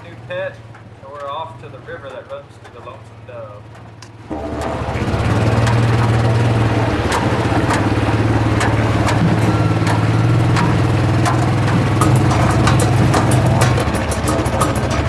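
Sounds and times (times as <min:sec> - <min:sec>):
rattles and knocks: 0:00.0 - 0:15.0
vehicle engine humming: 0:00.0 - 0:15.0.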